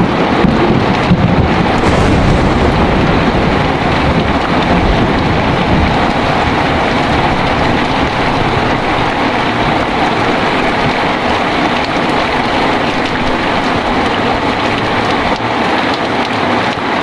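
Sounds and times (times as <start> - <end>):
heavy rain pouring: 0.0 - 17.0
low rumble of thunder: 0.2 - 15.8.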